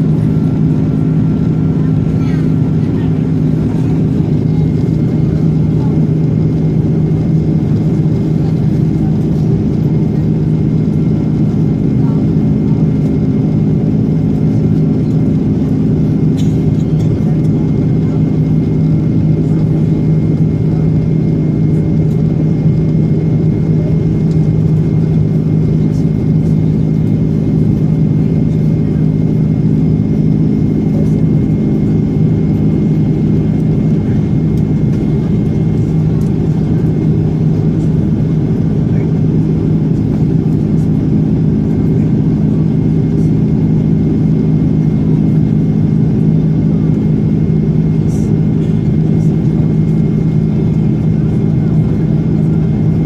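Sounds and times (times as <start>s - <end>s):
jet cabin engine drone: 0.0s - 53.0s.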